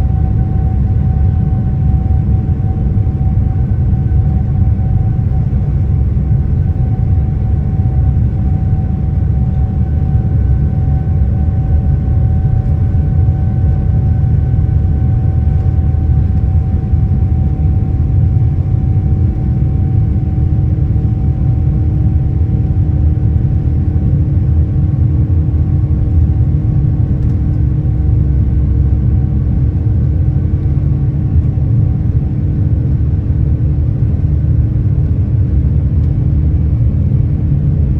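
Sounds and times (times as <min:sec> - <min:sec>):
airplane cabin rumble: 0:00.0 - 0:37.9
engine whine: 0:00.0 - 0:37.9.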